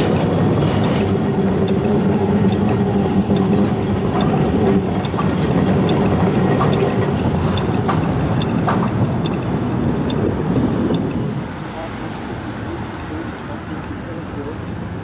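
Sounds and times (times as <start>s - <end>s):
street traffic rumble: 0.0s - 15.0s
tram passing with hum: 0.0s - 15.0s.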